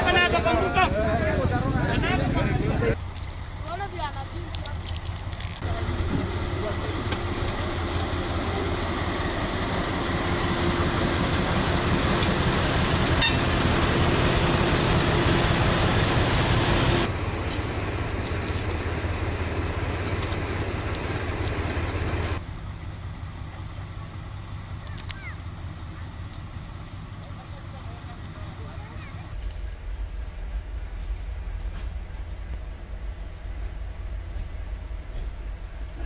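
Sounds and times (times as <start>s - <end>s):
train engine rumble: 0.0s - 36.0s.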